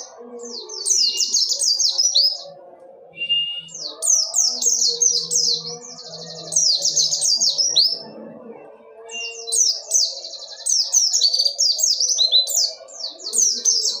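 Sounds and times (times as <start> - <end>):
bird singing chirps and trills: 0.0 - 14.0.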